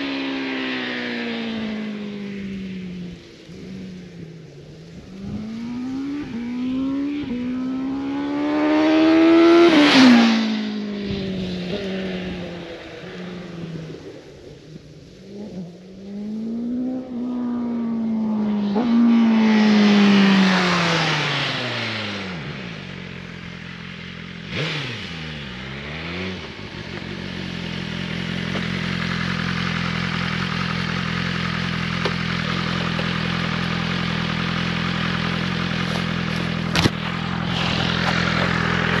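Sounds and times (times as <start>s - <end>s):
motorcycle engine revving past: 5.1s - 14.2s, 15.3s - 39.0s.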